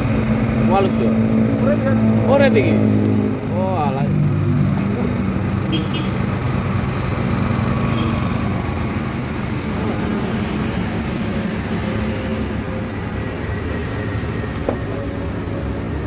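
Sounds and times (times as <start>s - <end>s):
portable generator engine humming: 0.0s - 16.0s.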